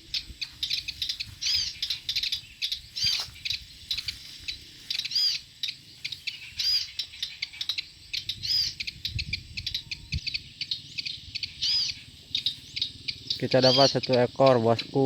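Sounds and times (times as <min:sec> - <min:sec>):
rapid high ticking chirps: 0:00.0 - 0:15.0
songbird calling high notes: 0:00.0 - 0:15.0.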